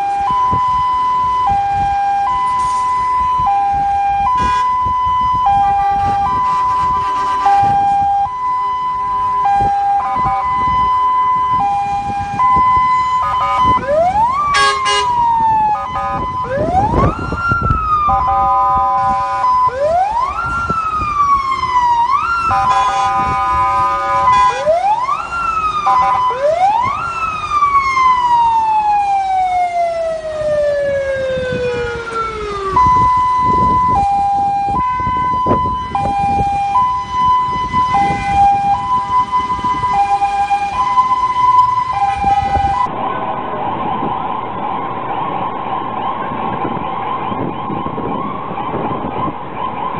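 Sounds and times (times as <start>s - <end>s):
ambulance siren: 0.0s - 49.9s
vehicle engine and road noise: 0.0s - 49.9s.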